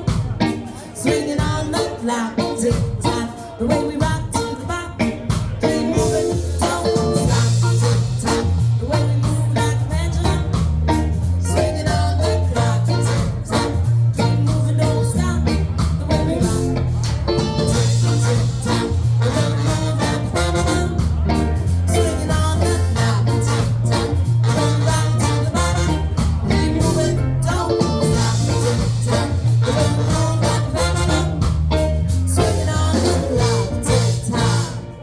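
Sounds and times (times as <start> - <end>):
bass line: 0.0 - 35.0
drums: 0.0 - 35.0
guitar: 0.0 - 35.0.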